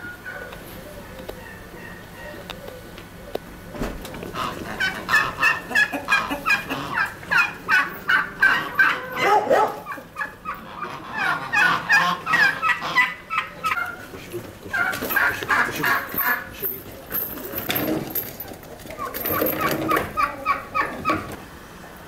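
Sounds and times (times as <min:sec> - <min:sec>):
fowl calling: 0:00.0 - 0:03.4, 0:04.2 - 0:16.5, 0:19.0 - 0:21.4.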